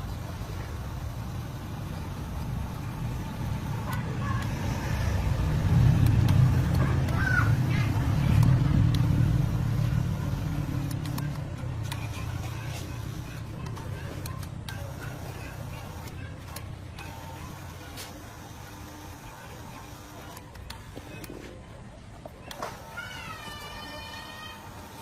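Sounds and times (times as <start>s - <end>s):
low engine rumble: 0.0s - 24.9s.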